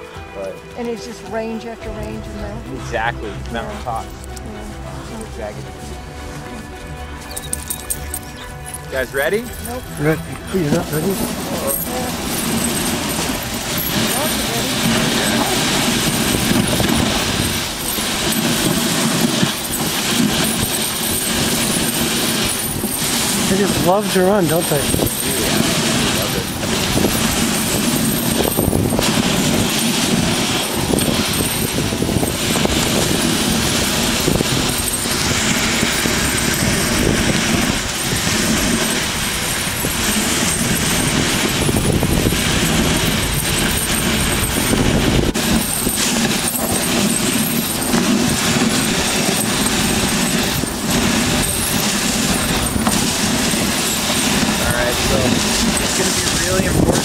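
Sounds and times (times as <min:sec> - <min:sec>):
sled frame jolting: 0:00.0 - 0:57.0
sled runners scraping on snow: 0:00.0 - 0:57.0.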